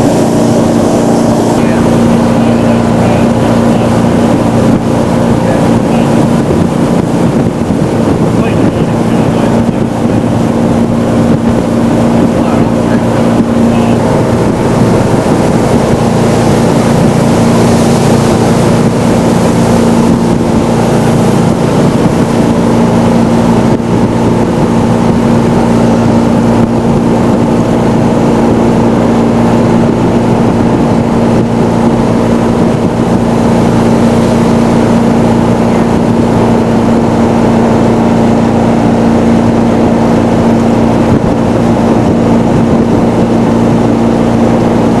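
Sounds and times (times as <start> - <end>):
boat engine running at speed: 0.0 - 45.0.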